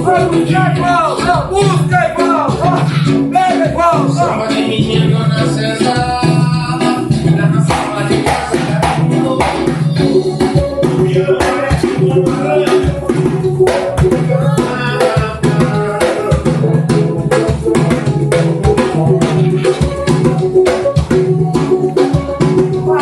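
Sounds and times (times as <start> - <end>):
percussion group drumming: 0.0 - 23.0.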